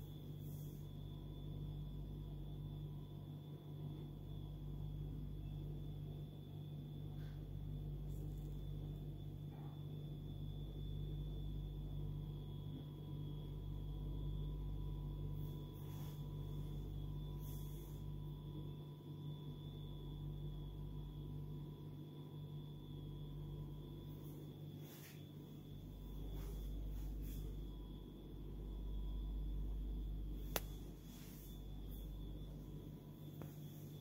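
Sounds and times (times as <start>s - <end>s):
faint high whine: 0.0s - 34.0s
low electrical hum: 0.0s - 34.0s.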